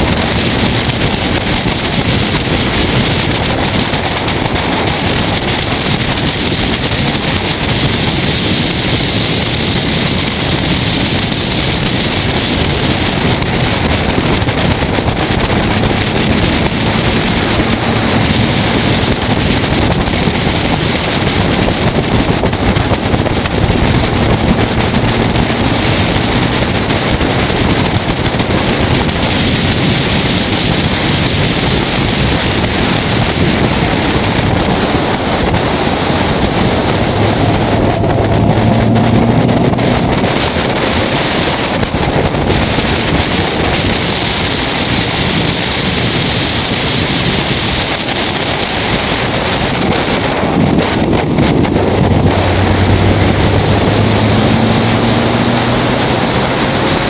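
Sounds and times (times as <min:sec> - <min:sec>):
race car engine under load: 0:00.0 - 0:57.0
wind rushing on microphone: 0:00.0 - 0:57.0.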